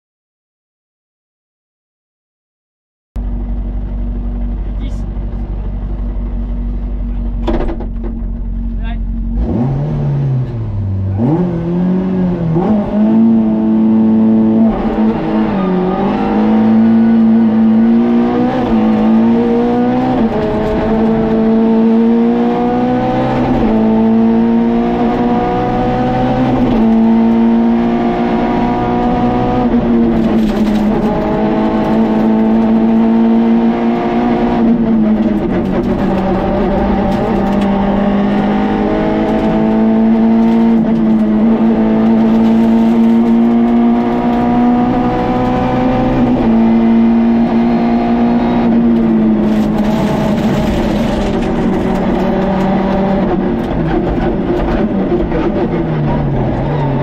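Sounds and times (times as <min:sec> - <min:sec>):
rally car engine revving: 0:03.2 - 0:57.0.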